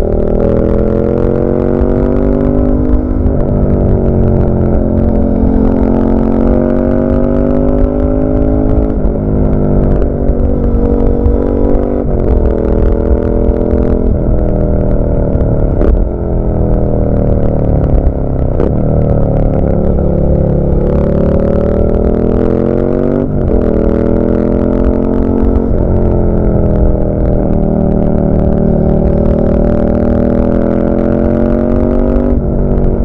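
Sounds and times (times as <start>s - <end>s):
motorcycle engine shifting gears: 0.0s - 33.0s.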